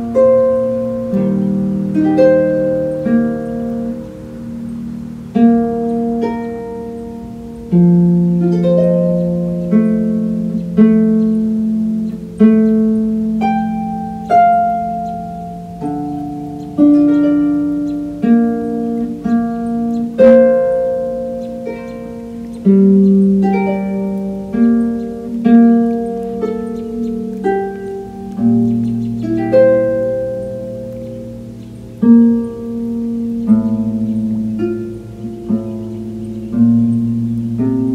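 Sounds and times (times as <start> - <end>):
harp playing slow piece: 0.0 - 37.9.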